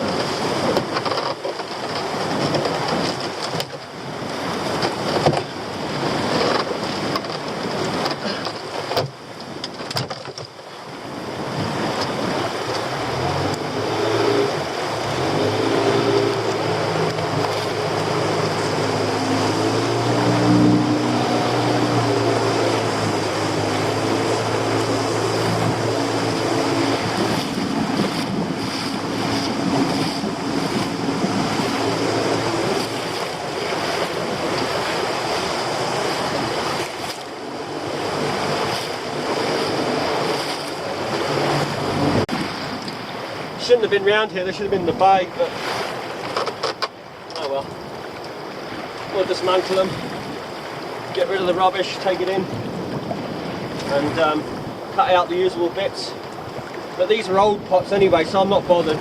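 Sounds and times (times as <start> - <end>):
wind on microphone: 0.0 - 46.7, 47.5 - 59.0
boat engine hum: 0.0 - 59.0
sea wash: 0.0 - 59.0.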